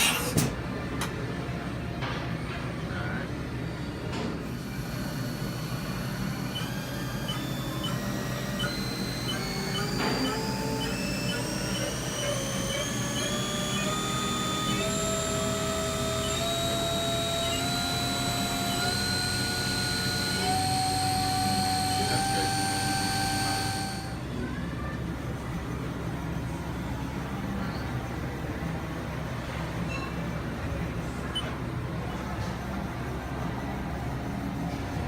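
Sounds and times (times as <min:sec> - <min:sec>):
low machine hum: 0:00.0 - 0:35.0
mill spindle whine rising: 0:03.8 - 0:35.0.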